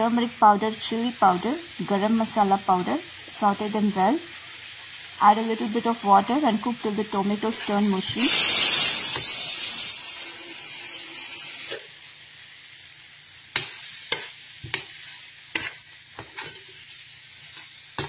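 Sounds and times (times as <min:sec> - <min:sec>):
masala sizzling in a pan: 0:00.0 - 0:18.0.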